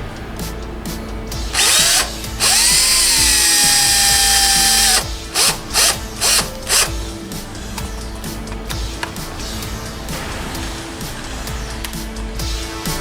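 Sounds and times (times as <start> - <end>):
power drill whining: 0.0 - 12.0
background music: 0.0 - 13.0.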